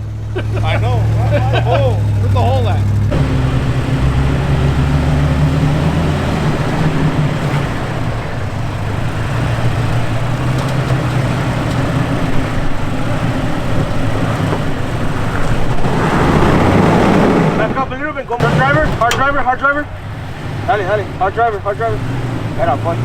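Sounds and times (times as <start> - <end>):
gravel noise: 0.0 - 23.0
truck engine at low revs: 0.0 - 23.0.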